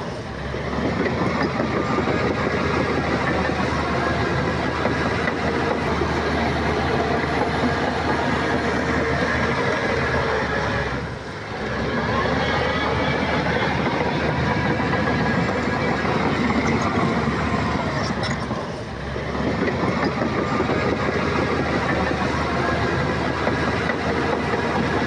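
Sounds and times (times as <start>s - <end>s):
bulldozer diesel engine: 0.0s - 25.0s
steel tracks clanking: 0.0s - 25.0s.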